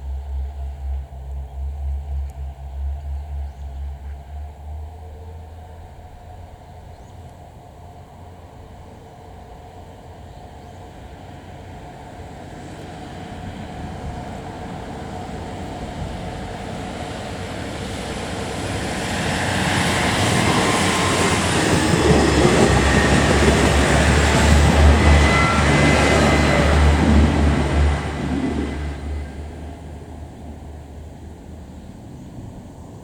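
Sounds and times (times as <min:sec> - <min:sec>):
heavy low engine rumble: 0:00.0 - 0:33.0
train approaching: 0:00.0 - 0:33.0.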